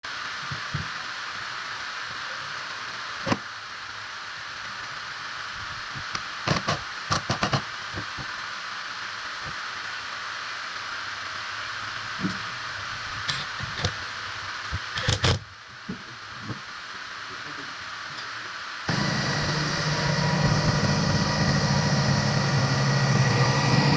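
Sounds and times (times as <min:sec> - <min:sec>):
steady hiss: 0:00.0 - 0:23.9.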